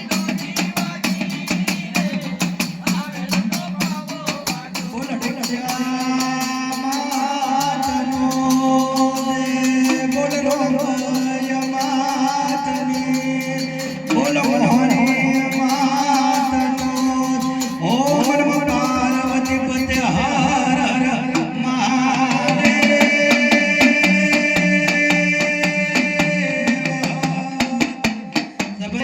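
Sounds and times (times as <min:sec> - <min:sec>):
devotional singing with percussion: 0:00.0 - 0:29.0.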